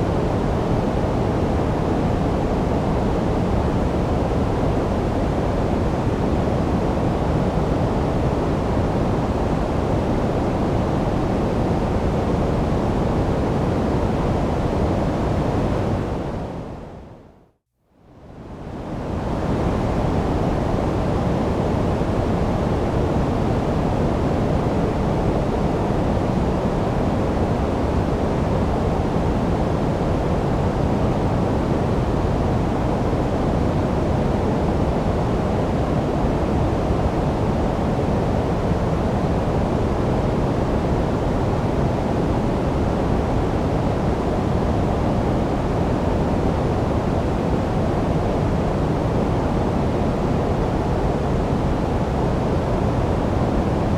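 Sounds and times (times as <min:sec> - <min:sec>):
low steady noise: 0:00.0 - 0:53.9.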